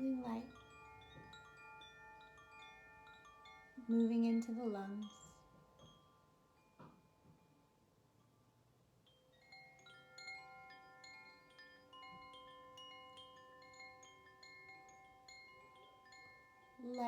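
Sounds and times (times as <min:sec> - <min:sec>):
faint metal chimes ringing: 0:00.0 - 0:17.0.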